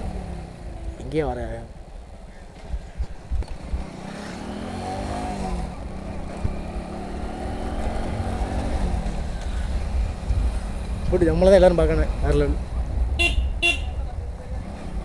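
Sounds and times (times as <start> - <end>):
motorcycle engine revving: 0.0 - 15.0
wind rumble on microphone: 1.8 - 4.1, 4.9 - 15.0.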